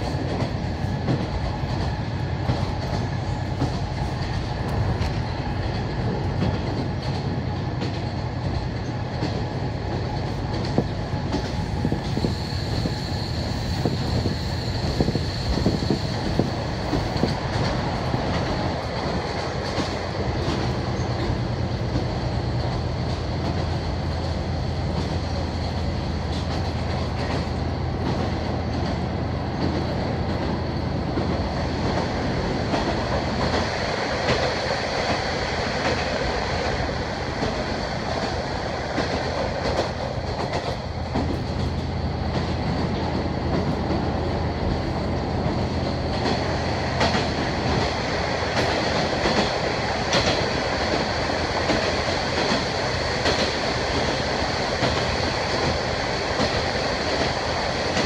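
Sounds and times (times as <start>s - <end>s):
clacks over rail joints: 0.0s - 12.3s, 15.6s - 58.0s
railcar engine drone: 0.0s - 58.0s.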